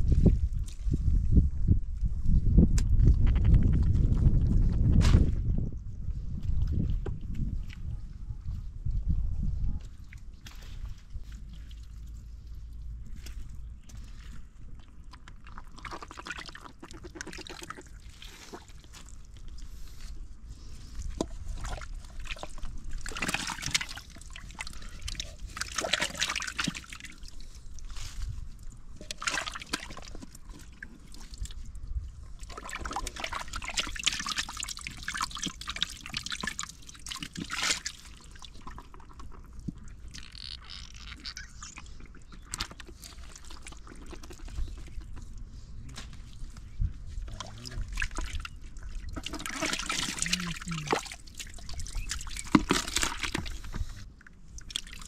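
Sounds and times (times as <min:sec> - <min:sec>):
muddy water sloshing and trickling: 0:00.0 - 0:02.4, 0:03.4 - 0:55.0.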